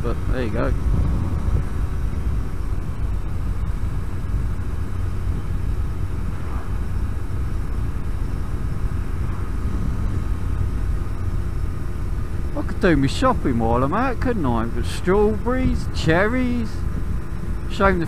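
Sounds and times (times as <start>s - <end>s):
two-stroke motorcycle cruising: 0.0s - 18.0s
wind rumble on microphone: 0.0s - 18.0s.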